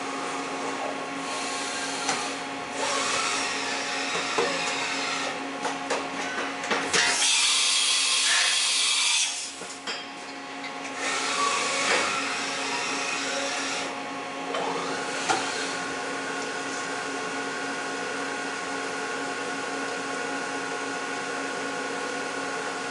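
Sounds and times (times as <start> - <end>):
machining center motor whine: 0.0 - 22.9.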